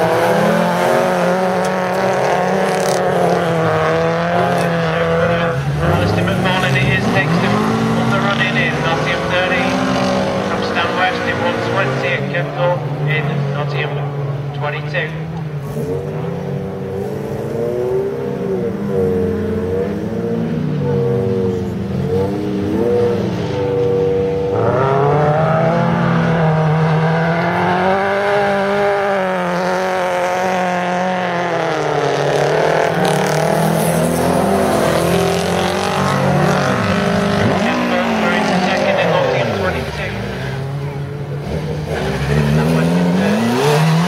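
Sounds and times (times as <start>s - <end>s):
racing car engines revving: 0.0s - 44.0s.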